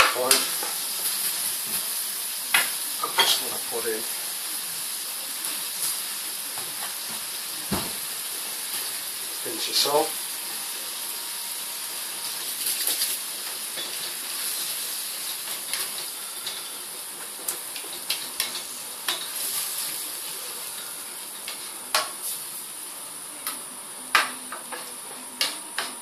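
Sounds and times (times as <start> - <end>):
sauce sizzling in frying pan: 0.0 - 26.0.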